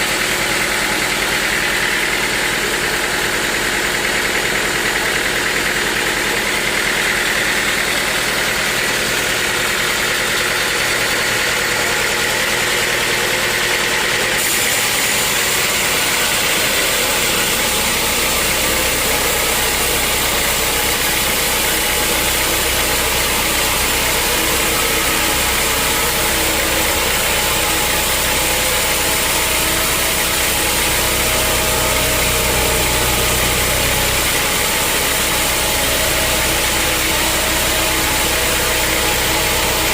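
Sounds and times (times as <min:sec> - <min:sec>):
high machine whine: 0:00.0 - 0:39.9
sawmill machinery drone: 0:00.0 - 0:39.9.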